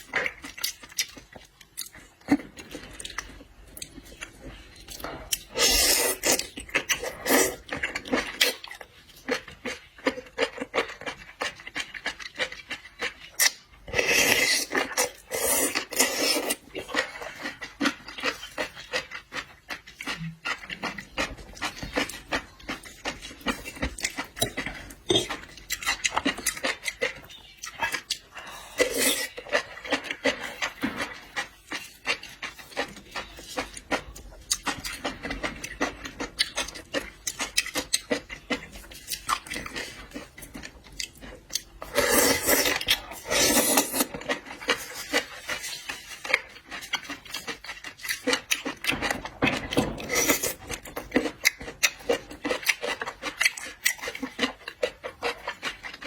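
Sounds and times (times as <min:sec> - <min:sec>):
chewing: 0:00.0 - 0:56.0.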